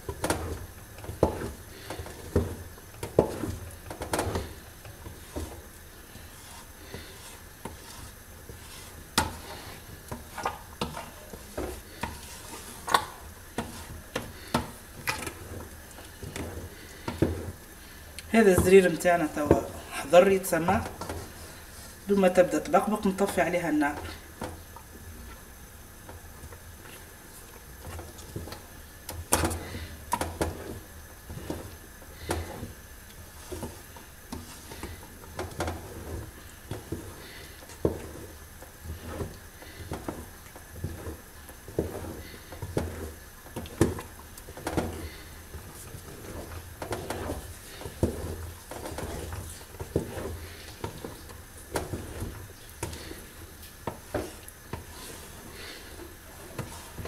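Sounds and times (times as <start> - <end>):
thick paste bubbling: 0.0 - 57.0
wooden spoon scraping a pot: 0.0 - 57.0.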